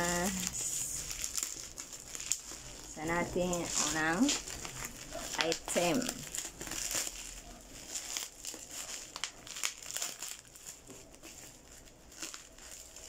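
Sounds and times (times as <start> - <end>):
bubble wrap rustling and crackling: 0.0 - 13.0.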